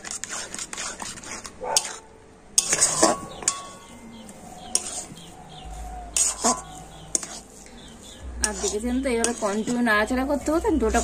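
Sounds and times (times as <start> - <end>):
metal spatula scraping a wok: 0.0 - 11.0.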